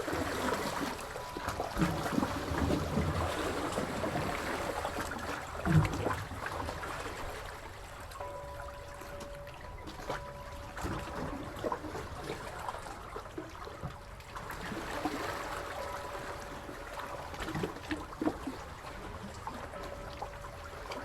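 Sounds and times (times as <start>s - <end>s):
seawater lapping and splashing: 0.0s - 21.0s.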